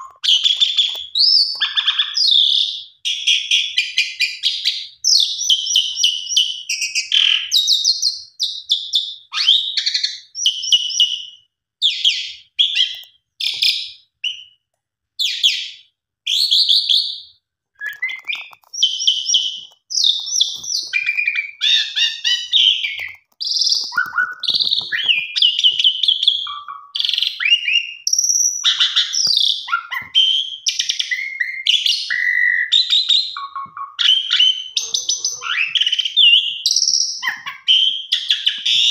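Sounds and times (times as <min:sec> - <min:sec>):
starling chattering and whistling: 0:00.0 - 0:14.6, 0:15.2 - 0:38.9.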